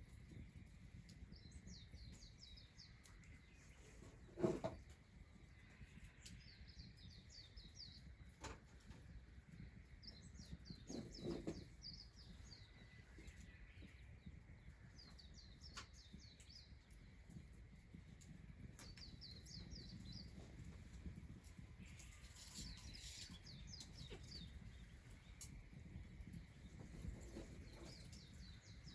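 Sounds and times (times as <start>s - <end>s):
songbird singing: 0.0s - 17.9s, 18.6s - 28.9s.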